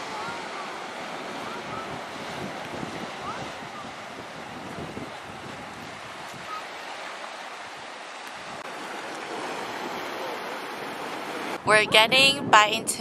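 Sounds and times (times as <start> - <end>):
ocean surf on rocky shore: 0.0 - 13.0.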